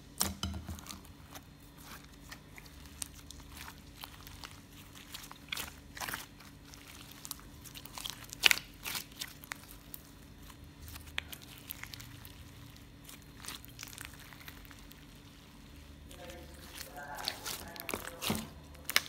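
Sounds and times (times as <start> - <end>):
slime popping and crackling: 0.1 - 19.0.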